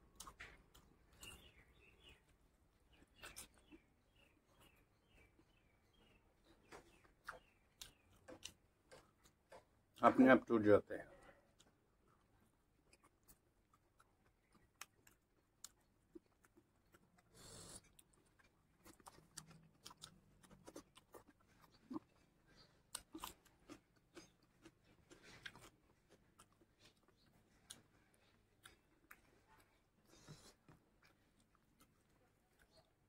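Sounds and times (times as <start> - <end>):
chewing with wet clicks and smacks: 0.0 - 33.0.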